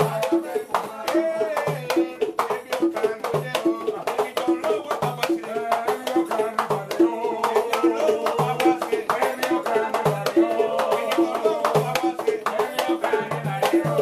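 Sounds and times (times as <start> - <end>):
drum bells jingling: 0.0 - 14.0
hand drums playing: 0.0 - 14.0
man singing: 0.0 - 14.0.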